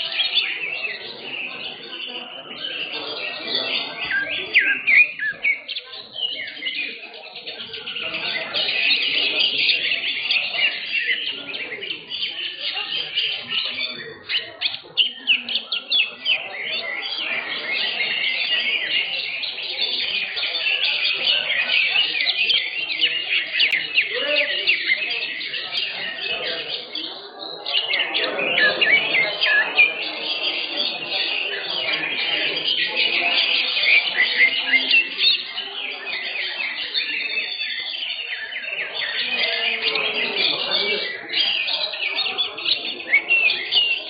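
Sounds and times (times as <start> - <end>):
birds chirping and trilling: 0.0 - 44.0
murmur of voices: 0.0 - 44.0.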